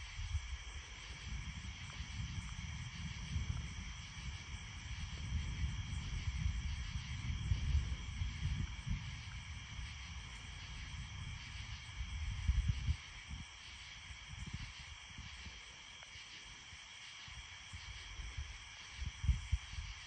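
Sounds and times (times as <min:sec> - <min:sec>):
night insects chirring: 0:00.0 - 0:20.0.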